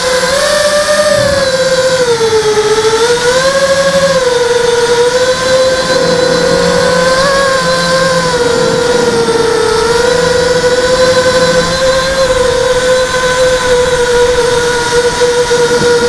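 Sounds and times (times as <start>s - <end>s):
drone motors whining: 0.0s - 16.0s
rushing noise: 1.0s - 16.0s.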